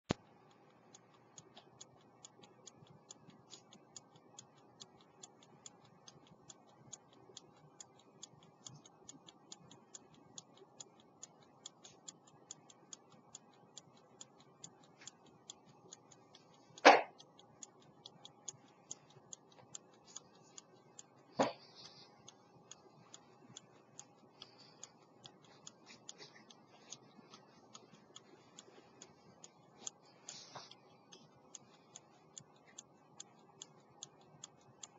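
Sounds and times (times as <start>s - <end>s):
pocket watch ticking: 0.1s - 34.9s.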